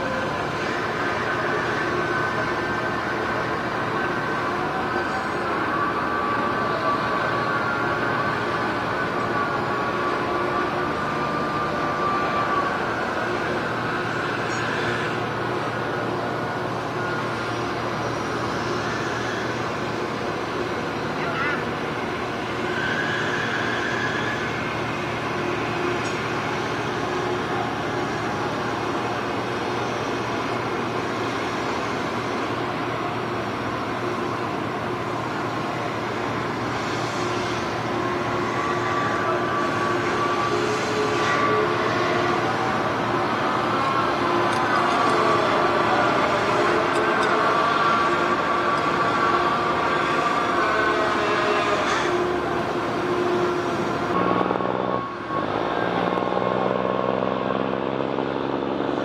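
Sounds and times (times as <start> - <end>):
boat engine droning: 0.0 - 59.0
faint steady whine: 0.0 - 59.0.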